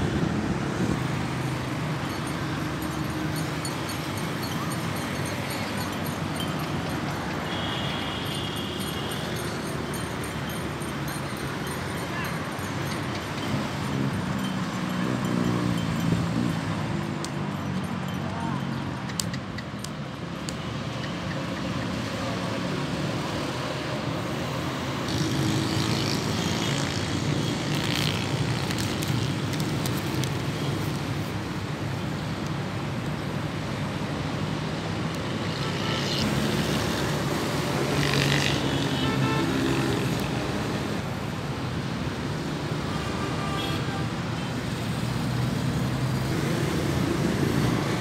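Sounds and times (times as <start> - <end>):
road traffic: 0.0 - 48.0.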